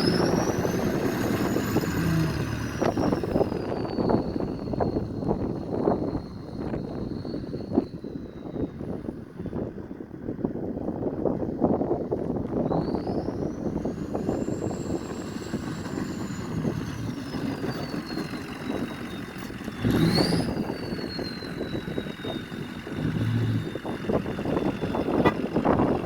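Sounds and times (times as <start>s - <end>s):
turbocharger whine: 0.0s - 9.7s, 11.7s - 26.0s
diesel engine rumble: 0.0s - 26.0s.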